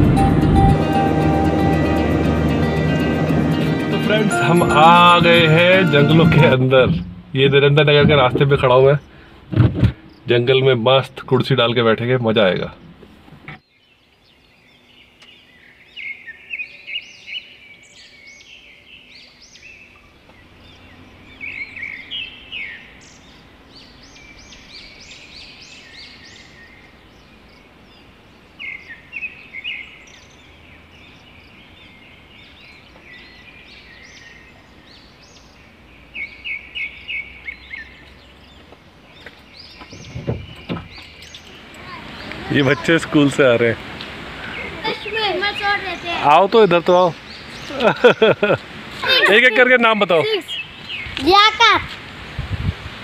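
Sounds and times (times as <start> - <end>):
birds chirping: 0.0 - 52.0
faint steady background noise: 4.6 - 53.0.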